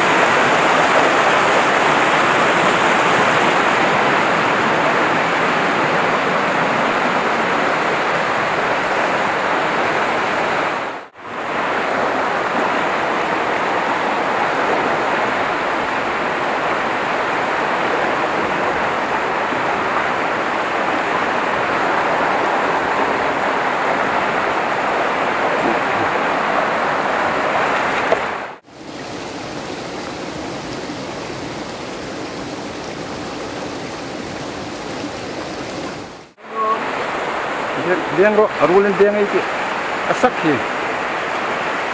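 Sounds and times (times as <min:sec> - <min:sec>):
river rushing over rocks: 0:00.0 - 0:41.9.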